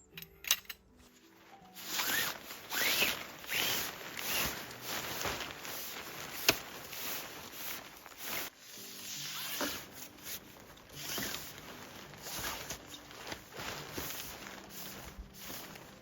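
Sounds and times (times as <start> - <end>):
rustling handling noises: 0.8 - 16.0.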